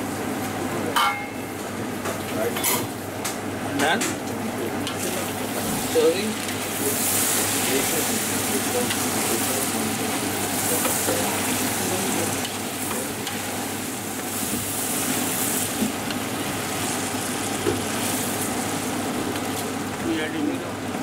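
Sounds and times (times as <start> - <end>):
vegetables sizzling in oil: 1.3 - 21.0.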